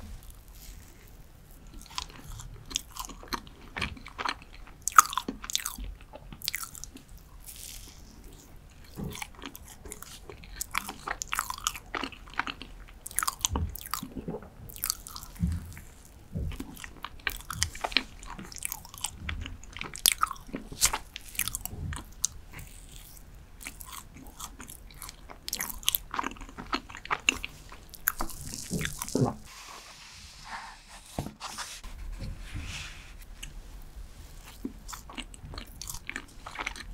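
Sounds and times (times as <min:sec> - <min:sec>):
chewing with wet smacks: 0:00.4 - 0:29.5, 0:34.4 - 0:36.9.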